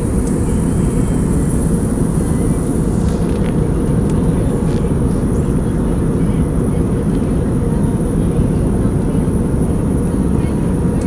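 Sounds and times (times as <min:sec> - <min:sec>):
aeroplane rumble in flight: 0:00.0 - 0:11.0.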